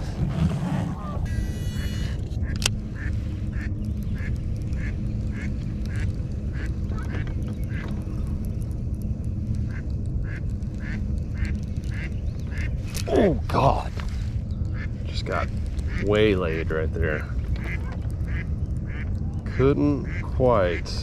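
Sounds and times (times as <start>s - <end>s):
wind and water rumble: 0.0s - 21.0s.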